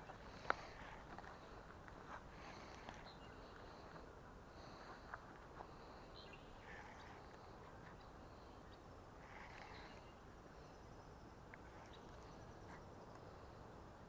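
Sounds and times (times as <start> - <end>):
faint bird calls: 0.0 - 13.8.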